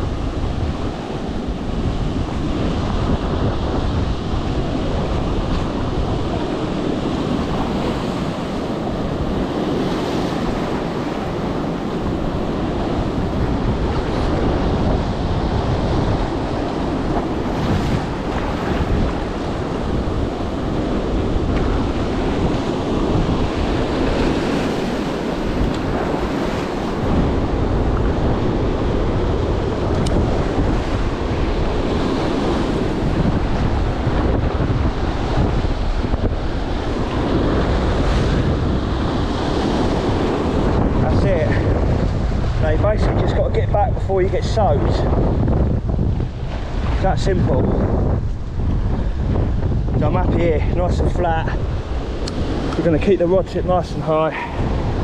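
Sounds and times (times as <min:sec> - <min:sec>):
surf breaking over rocks: 0:00.0 - 0:55.0
wind buffeting microphone: 0:00.0 - 0:55.0.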